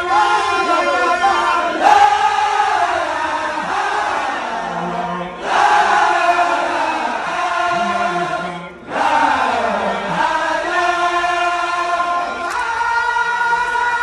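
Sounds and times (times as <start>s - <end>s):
men chanting in chorus: 0.0s - 14.0s.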